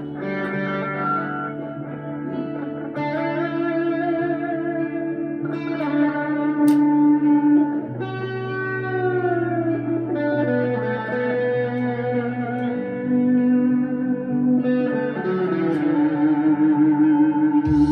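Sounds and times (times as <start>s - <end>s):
electric guitar chords ringing: 0.0s - 17.9s.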